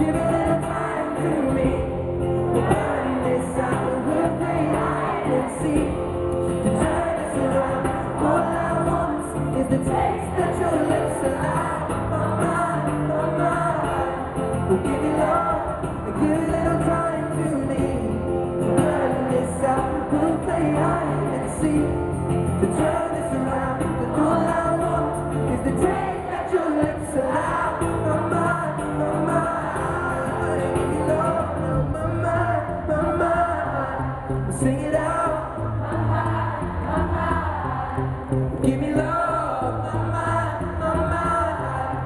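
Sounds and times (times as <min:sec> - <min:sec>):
person singing: 0:00.0 - 0:38.0
acoustic guitar: 0:00.0 - 0:42.0.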